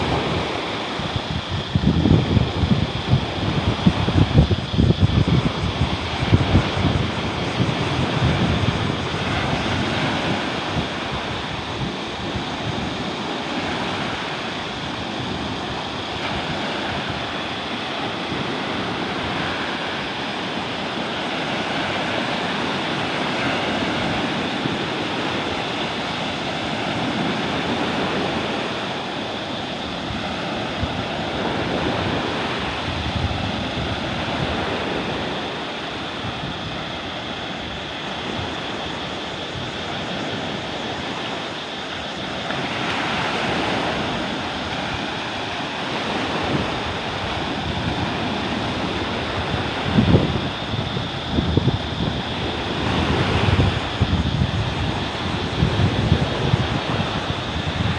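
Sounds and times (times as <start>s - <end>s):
surf rushing onto beach: 0.0s - 57.9s
wind buffeting microphone: 0.0s - 57.9s.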